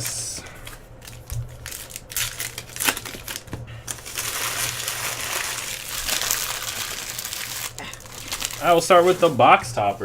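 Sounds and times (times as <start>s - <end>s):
plastic and cardboard crinkling: 0.0s - 9.5s.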